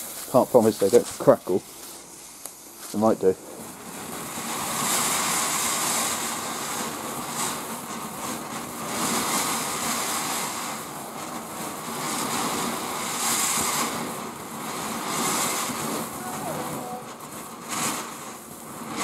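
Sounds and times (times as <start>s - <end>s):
firework fountain hissing: 0.0s - 19.0s.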